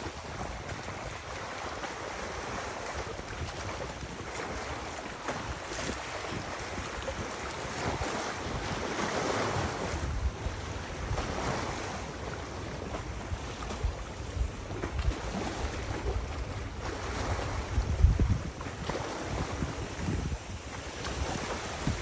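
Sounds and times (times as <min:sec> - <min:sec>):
river water: 0:00.0 - 0:22.0
wind buffeting microphone: 0:00.0 - 0:22.0.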